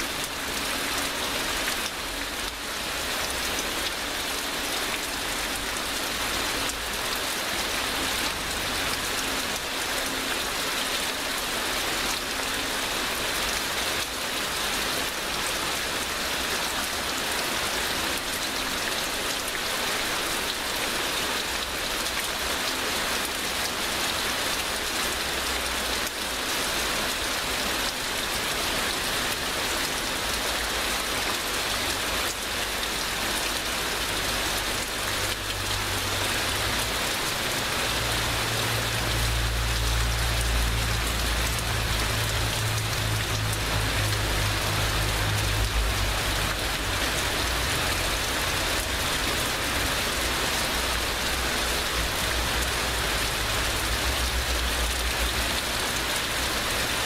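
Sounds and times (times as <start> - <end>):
heavy rain downpour: 0.0 - 57.0.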